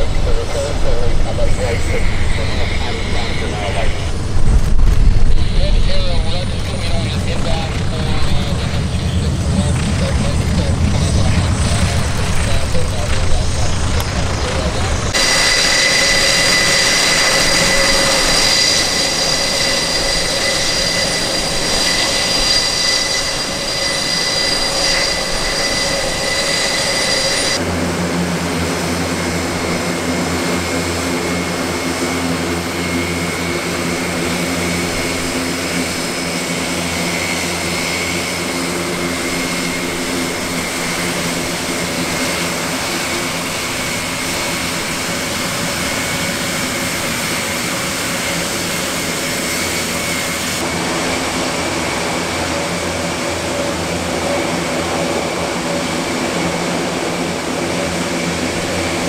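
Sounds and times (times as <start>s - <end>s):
propeller drone: 0.0s - 59.0s
turbine whine: 0.0s - 59.0s.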